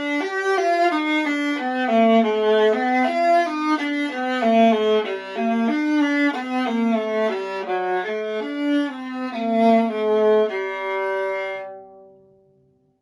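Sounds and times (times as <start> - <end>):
viola played with bow: 0.0 - 12.3.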